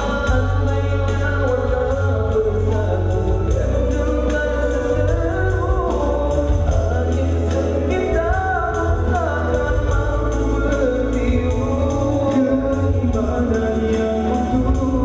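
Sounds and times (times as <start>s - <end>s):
voices singing over a beat: 0.0s - 15.0s.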